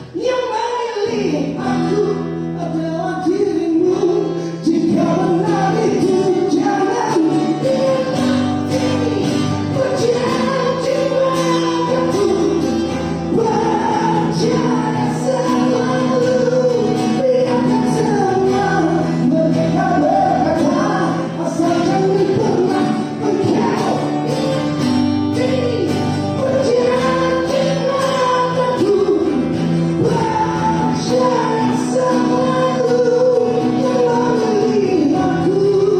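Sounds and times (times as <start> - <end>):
voices singing: 0.0 - 35.9
live band playing pop-rock: 1.4 - 35.9.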